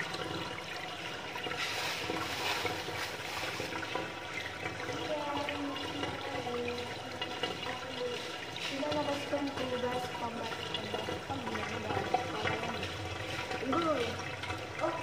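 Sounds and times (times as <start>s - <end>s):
water from hose splashing on tiles: 0.0s - 15.0s.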